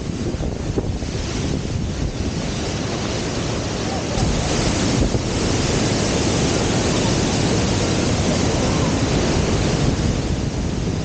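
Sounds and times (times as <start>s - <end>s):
river water rushing and splashing: 0.0s - 11.0s.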